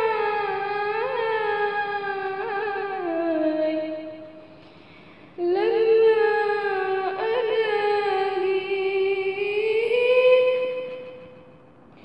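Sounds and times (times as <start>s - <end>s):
woman singing unaccompanied: 0.0s - 4.4s, 5.4s - 11.4s.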